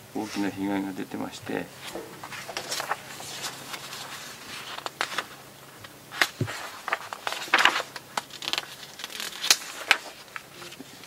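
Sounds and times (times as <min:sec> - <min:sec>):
papers rustling: 0:01.4 - 0:11.0.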